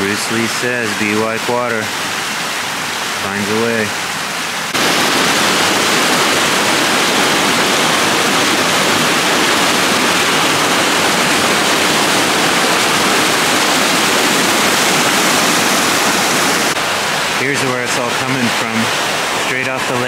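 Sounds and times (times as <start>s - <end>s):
stream rushing over waterfall: 0.0s - 20.0s.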